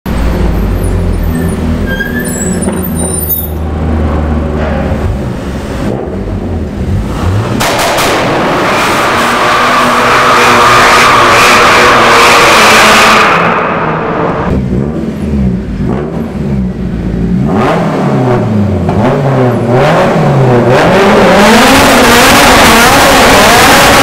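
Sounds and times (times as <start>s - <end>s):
car engine accelerating: 0.1s - 24.0s.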